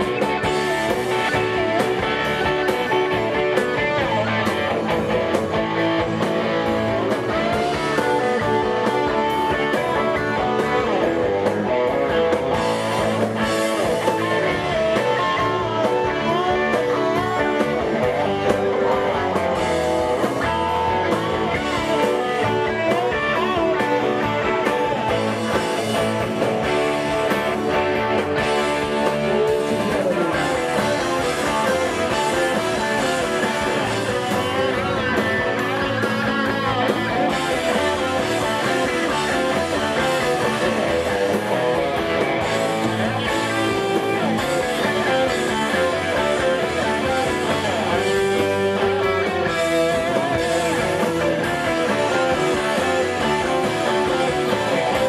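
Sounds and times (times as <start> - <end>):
bass guitar: 0.0 - 55.0
drums: 0.0 - 55.0
electric guitars: 0.0 - 55.0.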